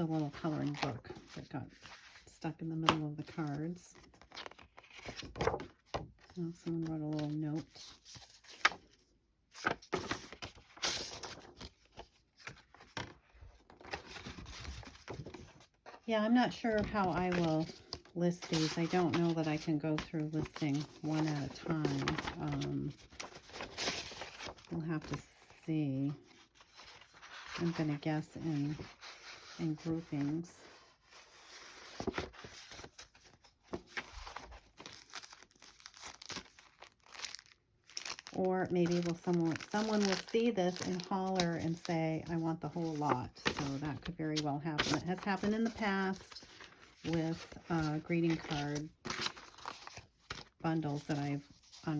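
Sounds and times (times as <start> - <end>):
paper rustling and crinkling: 0.0 - 51.9.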